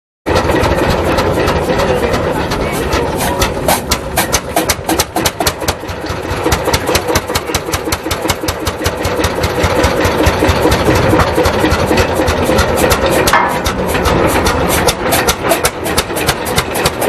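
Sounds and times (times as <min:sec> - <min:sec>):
tractor engine popping exhaust: 0:00.3 - 0:17.0.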